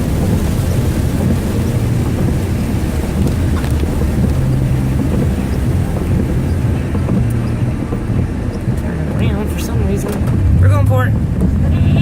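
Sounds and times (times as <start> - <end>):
rain hissing: 0.0 - 11.8
truck engine and road drone: 0.0 - 12.0.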